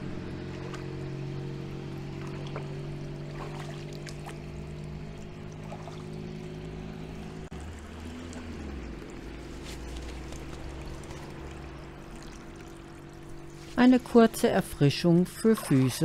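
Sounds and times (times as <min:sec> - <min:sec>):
water pouring and trickling: 0:00.4 - 0:16.0.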